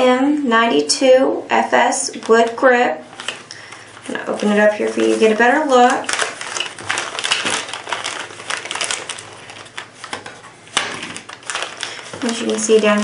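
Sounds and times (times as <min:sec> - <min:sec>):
plastic bag crinkling: 0:02.2 - 0:13.0.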